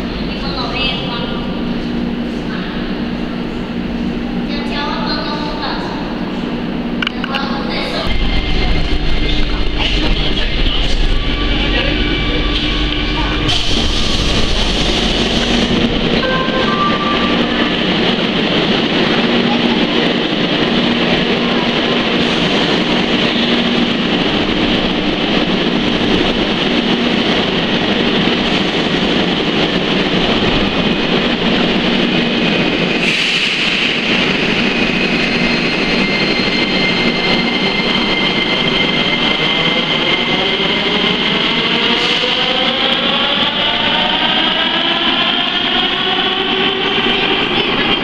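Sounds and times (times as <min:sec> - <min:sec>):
train rumble and hiss: 0:00.0 - 0:48.0.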